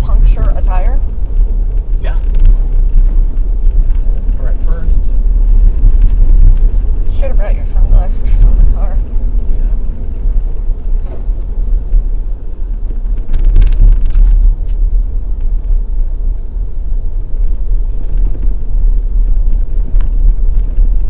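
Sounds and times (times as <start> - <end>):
engine and tyres rumbling: 0.0 - 21.0.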